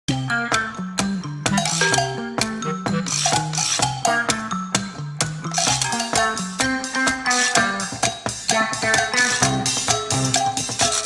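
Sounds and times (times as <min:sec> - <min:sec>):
upbeat music bass line: 0:00.1 - 0:11.0
sharp clicking percussion: 0:00.5 - 0:11.0.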